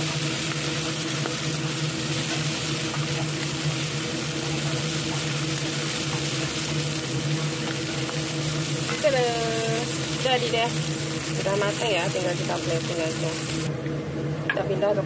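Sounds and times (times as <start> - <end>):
noodles frying hiss: 0.0 - 13.7
motor hum: 0.0 - 14.5.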